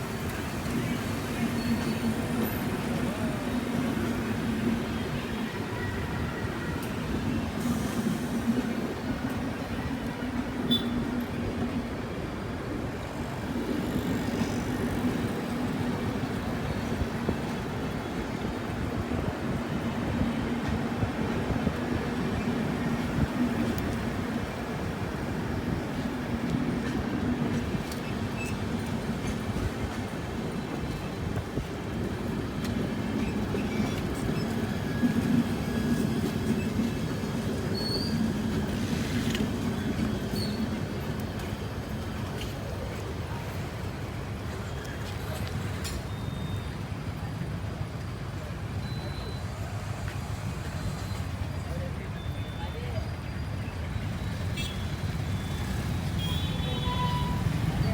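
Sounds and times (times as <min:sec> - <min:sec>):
low train hum: 0:00.0 - 0:57.9
train wheels rumbling on rails: 0:00.0 - 0:57.9.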